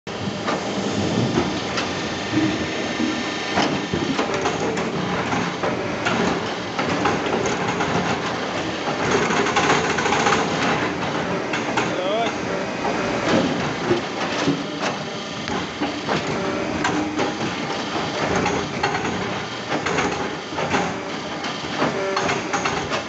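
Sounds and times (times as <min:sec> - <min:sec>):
log debarker mechanical clatter: 0:00.1 - 0:23.0.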